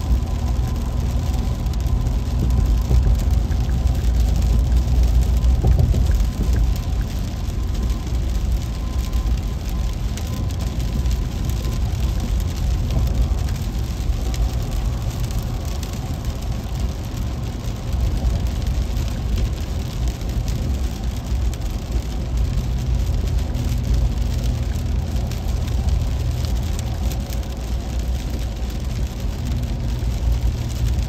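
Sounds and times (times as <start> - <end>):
car driving rumble: 0.0 - 31.0
heavy rain on car windshield: 0.0 - 31.0.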